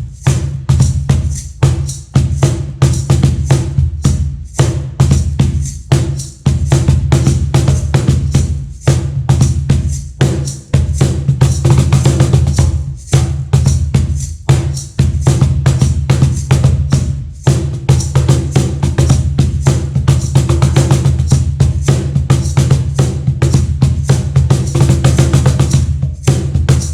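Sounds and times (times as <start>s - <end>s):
cajon played by hand: 0.0s - 26.9s.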